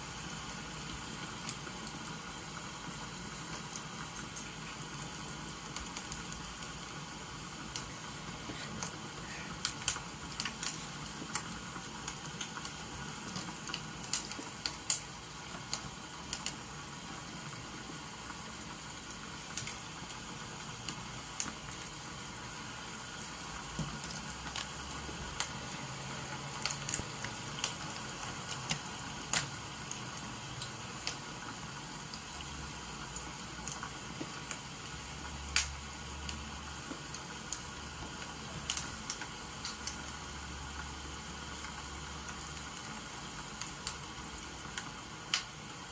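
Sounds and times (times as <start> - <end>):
rain hissing: 0.0 - 45.9
wood fire crackling: 0.0 - 45.9.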